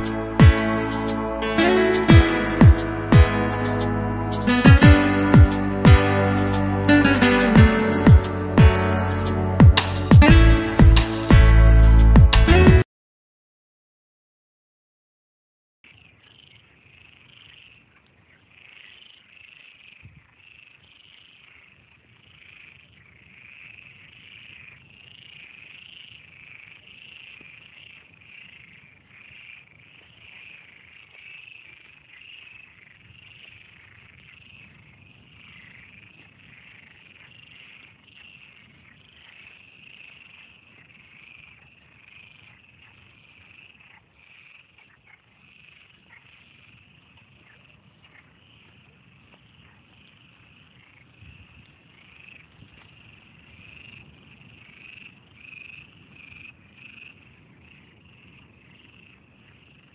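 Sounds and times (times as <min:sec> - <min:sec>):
chorus of frogs calling: 0:00.0 - 0:11.8, 0:15.9 - 0:59.9.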